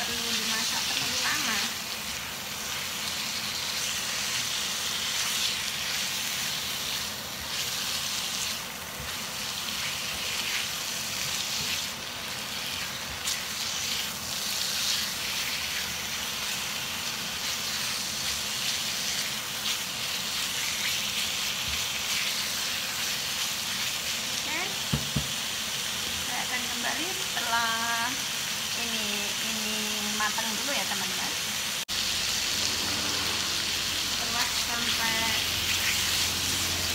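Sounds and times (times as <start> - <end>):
beef sizzling in a wok: 0.0 - 36.9.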